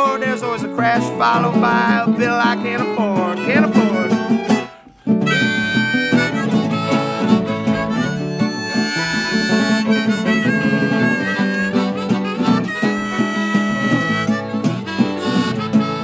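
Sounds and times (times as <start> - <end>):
bowed fiddle: 0.0 - 16.0
harmonica long held notes: 0.0 - 16.0
strummed resonator guitar: 0.0 - 16.0.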